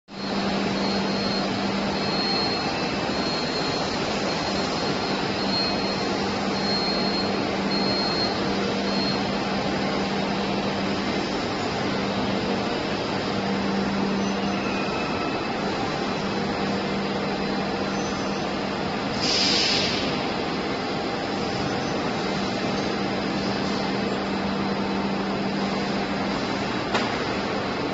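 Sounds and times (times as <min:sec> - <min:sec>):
machinery running with low hum: 0:00.1 - 0:27.9.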